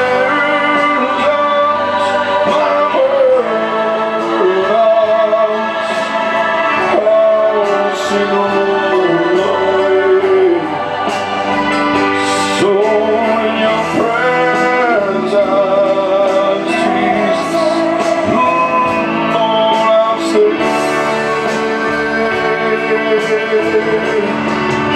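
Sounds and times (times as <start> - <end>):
sustained instrumental chords: 0.0 - 24.9.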